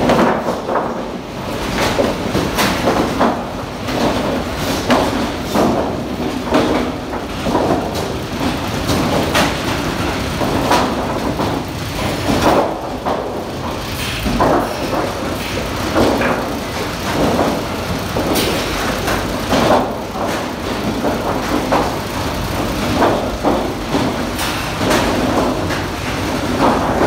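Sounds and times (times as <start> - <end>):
conveyors clattering: 0.0 - 27.0.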